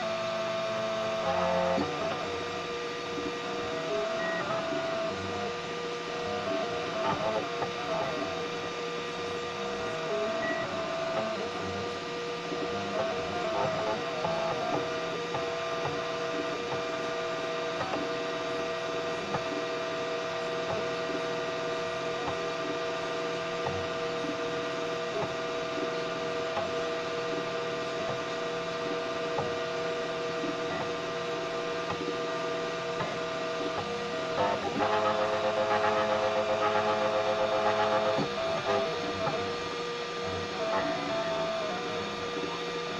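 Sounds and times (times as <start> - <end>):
stepper motors whining: 0.0 - 42.9.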